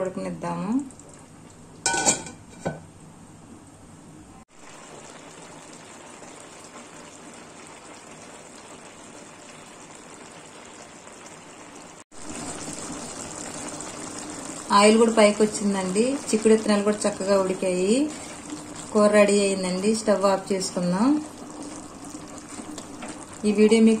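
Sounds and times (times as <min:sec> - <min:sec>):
curry bubbling in a pan: 0:00.8 - 0:01.9, 0:04.5 - 0:24.0.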